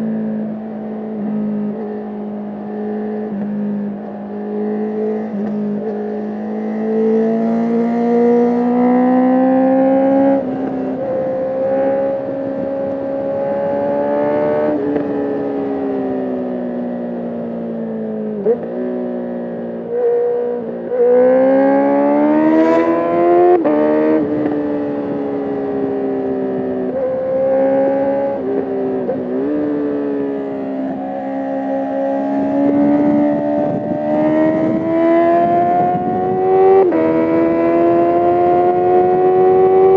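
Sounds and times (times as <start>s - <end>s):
motorcycle engine revving through gears: 0.0s - 17.3s, 18.4s - 39.9s.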